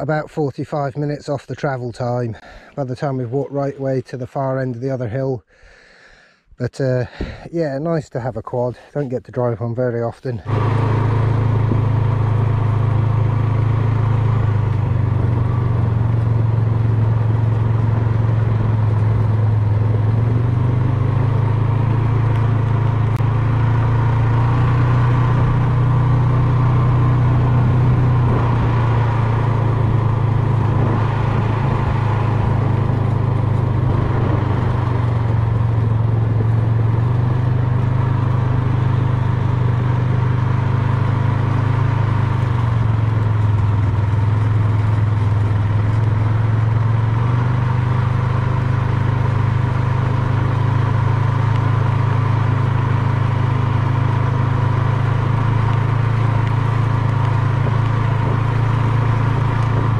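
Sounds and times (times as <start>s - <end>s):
quad bike engine droning: 0.0s - 5.5s, 6.7s - 59.9s.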